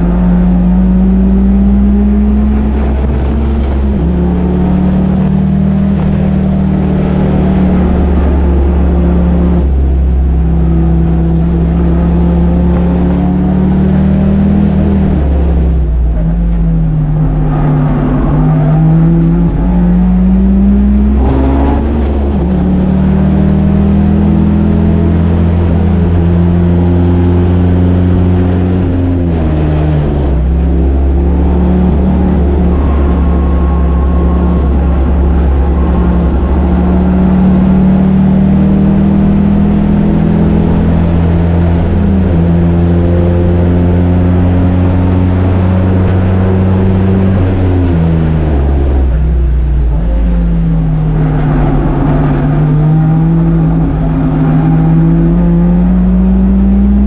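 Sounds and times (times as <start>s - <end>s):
car engine accelerating: 0.0s - 57.0s
loud tire hum: 0.0s - 57.0s.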